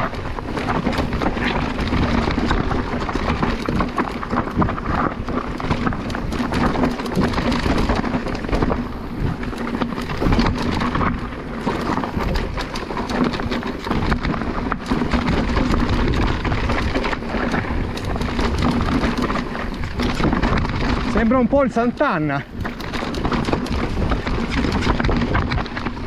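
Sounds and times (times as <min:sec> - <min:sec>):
bike tyres rattling over stones: 0:00.0 - 0:26.0
wind buffeting microphone: 0:00.0 - 0:26.0.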